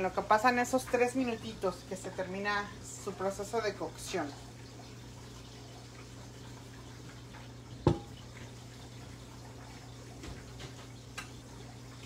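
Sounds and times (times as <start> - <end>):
covered pan simmering: 0.0 - 12.0.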